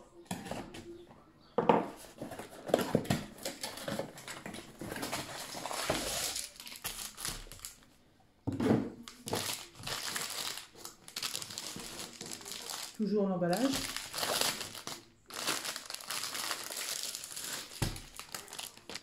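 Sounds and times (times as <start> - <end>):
plastic wrap crinkling: 2.1 - 7.9, 9.0 - 19.0.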